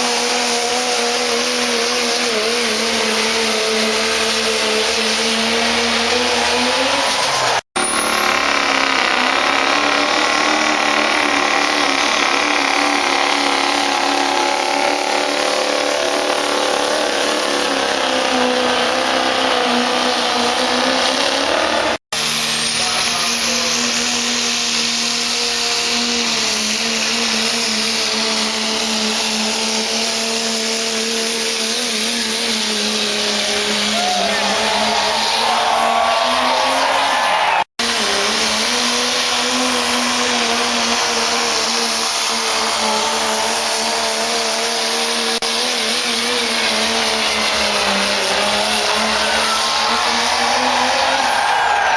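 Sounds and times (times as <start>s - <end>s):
diesel truck engines at full throttle: 0.0s - 30.7s, 31.5s - 51.9s.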